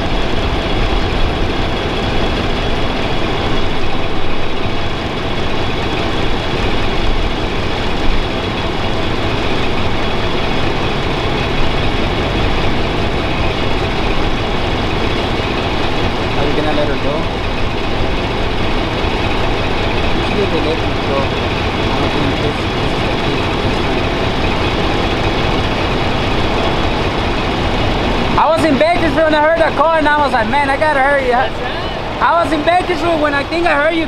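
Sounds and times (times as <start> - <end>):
vehicle traffic rumble: 0.0 - 34.0.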